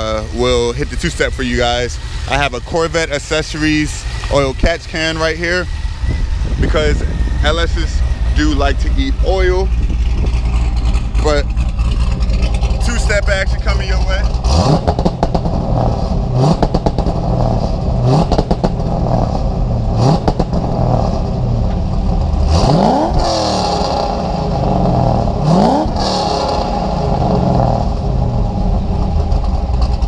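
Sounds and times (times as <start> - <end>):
vee eight engine revving: 0.0 - 30.0.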